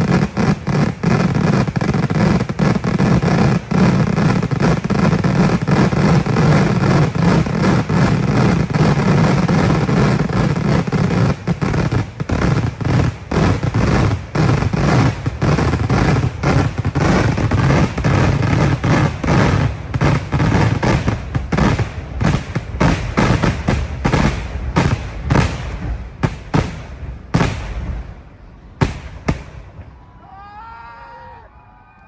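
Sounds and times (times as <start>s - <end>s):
firecrackers going off: 0.0s - 30.2s
sharp firecracker bangs: 0.0s - 30.2s.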